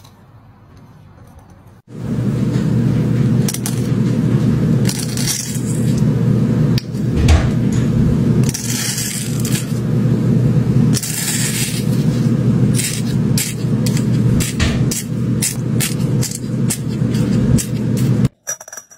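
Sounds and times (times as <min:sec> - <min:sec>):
steady low drone: 0:01.9 - 0:18.3.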